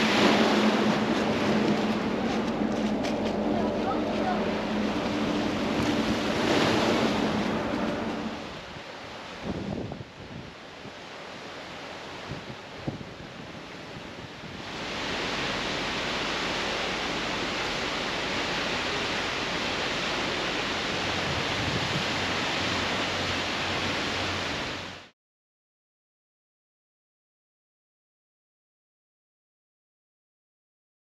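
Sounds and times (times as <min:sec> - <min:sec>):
sea surf: 0:00.0 - 0:25.1
waterfall rushing: 0:00.0 - 0:25.1
wind: 0:00.0 - 0:25.2.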